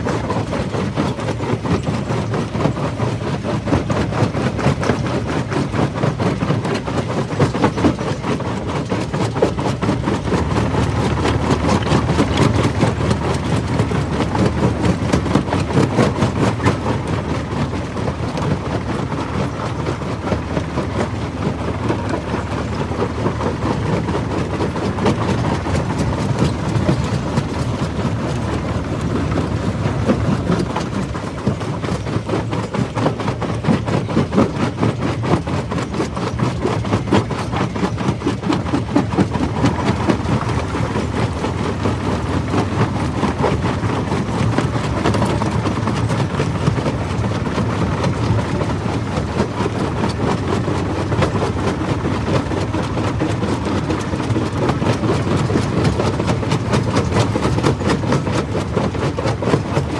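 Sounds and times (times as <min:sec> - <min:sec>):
rock crusher rumbling: 0:00.0 - 0:59.9.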